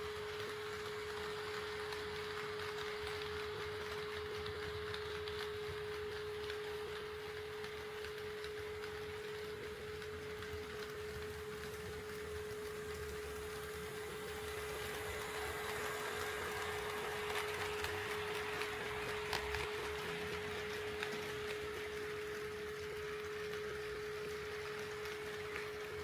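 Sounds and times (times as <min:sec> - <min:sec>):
model train rolling on track: 0:00.0 - 0:26.0.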